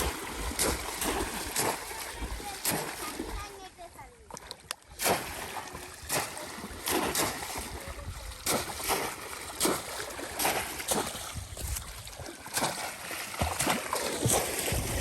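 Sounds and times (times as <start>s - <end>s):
water splashing in a river: 0.0s - 15.0s.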